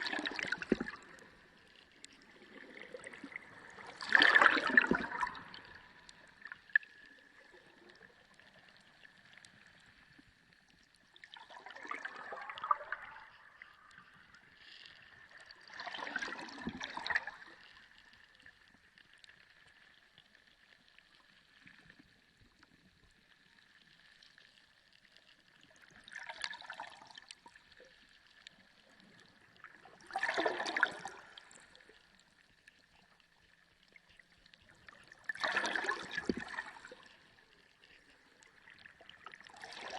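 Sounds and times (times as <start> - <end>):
underwater rushing gurgling water: 0.0 - 10.2, 11.2 - 19.4, 25.7 - 32.8, 33.4 - 39.9.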